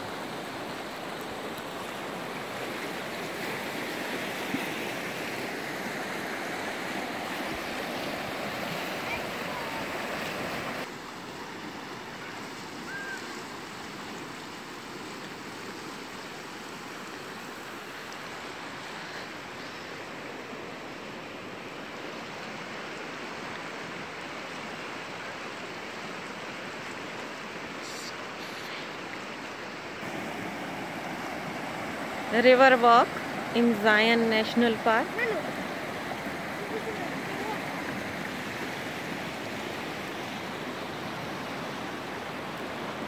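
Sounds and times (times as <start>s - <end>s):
river water rushing over rocks: 0.0s - 43.0s.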